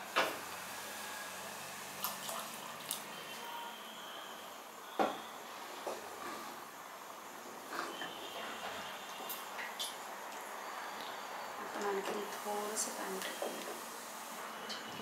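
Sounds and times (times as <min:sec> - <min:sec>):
gas burner hissing: 0:00.0 - 0:02.0, 0:03.6 - 0:15.0.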